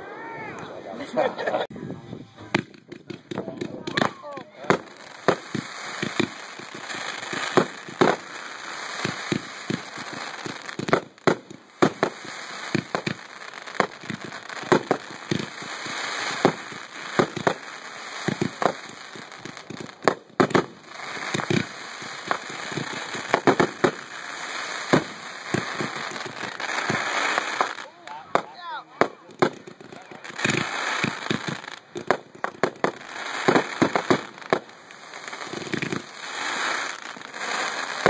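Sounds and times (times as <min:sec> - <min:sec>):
firework launch thumps and bursts: 0:02.5 - 0:08.3, 0:09.0 - 0:24.1, 0:24.9 - 0:38.0
firework crackling hiss: 0:02.5 - 0:38.0.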